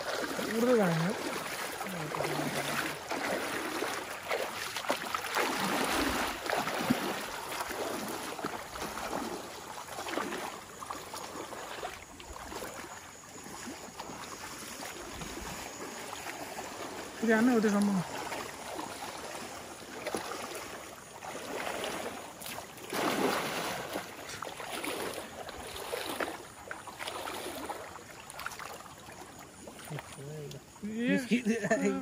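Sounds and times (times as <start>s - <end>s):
splashing through shallow water: 0.0s - 32.0s.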